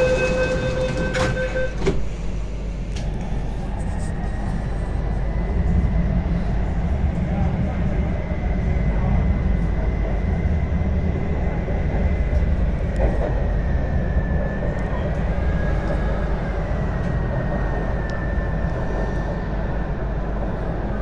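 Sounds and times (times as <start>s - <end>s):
thin high train whine: 0.0s - 21.0s
train wheels rumbling on track: 0.0s - 21.0s.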